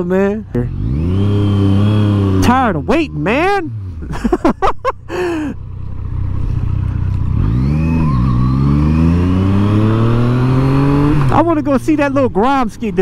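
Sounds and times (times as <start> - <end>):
motorcycle engine revving: 0.0 - 4.3, 5.3 - 13.0.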